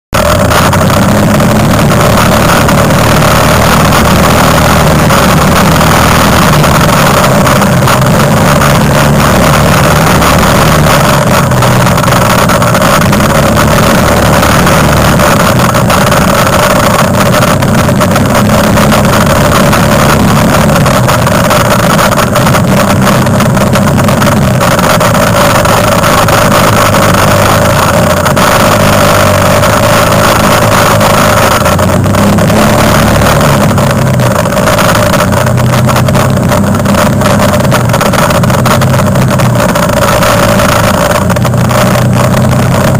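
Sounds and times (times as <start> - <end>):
quad engine droning: 0.0 - 42.9.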